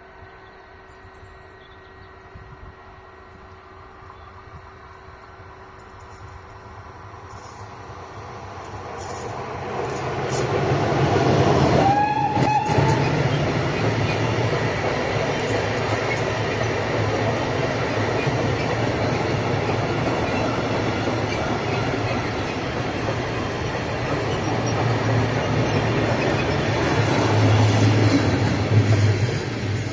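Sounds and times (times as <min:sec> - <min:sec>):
train passing with wheels rattling: 0:00.0 - 0:29.9.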